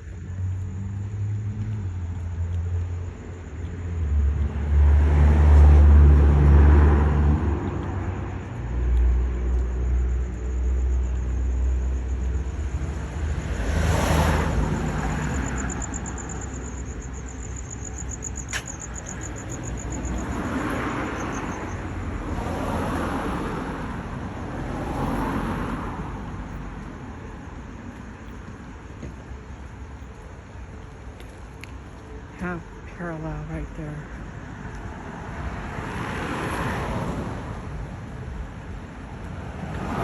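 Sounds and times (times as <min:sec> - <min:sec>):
cars passing by: 0:00.0 - 0:40.0
vehicle low rumble: 0:00.0 - 0:40.0.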